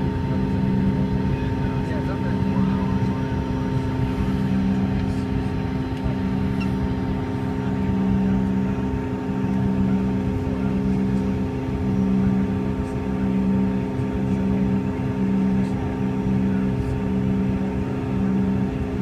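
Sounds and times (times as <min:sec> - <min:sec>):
airliner cabin engine hum: 0:00.0 - 0:19.0.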